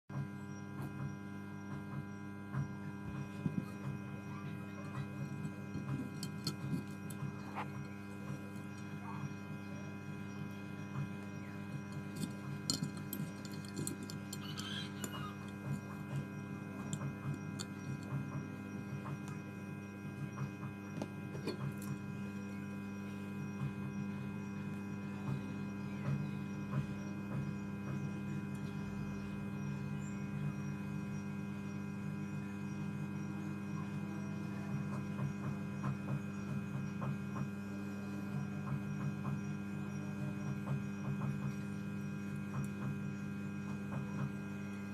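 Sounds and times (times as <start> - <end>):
electrical mains hum: 0.1 - 44.9.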